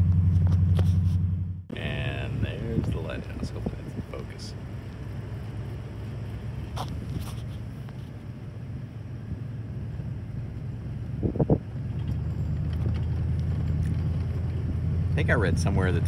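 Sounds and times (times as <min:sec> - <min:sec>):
truck engine and tyre rumble: 0:00.0 - 0:16.0.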